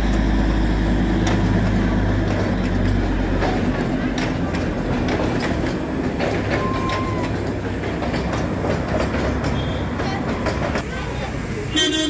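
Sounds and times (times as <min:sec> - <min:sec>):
steady rumble of coaches: 0:00.0 - 0:11.6
wheels clacking over rail joints: 0:00.0 - 0:11.8.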